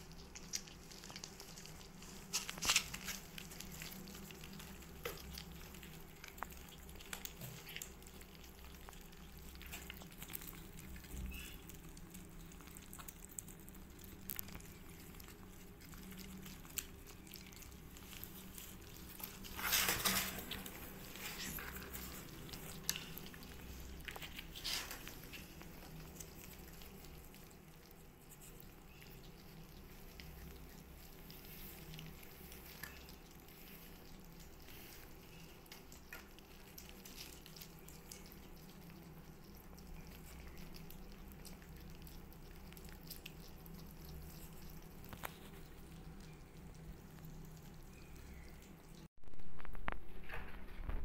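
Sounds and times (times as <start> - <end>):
kittens lapping and eating: 0.0 - 51.0.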